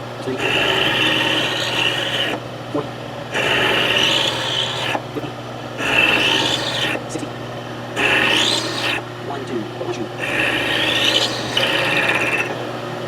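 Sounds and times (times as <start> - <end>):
steady low hum: 0.0 - 13.0
rasping strokes on metal: 0.2 - 2.4, 3.3 - 5.1, 5.8 - 12.6.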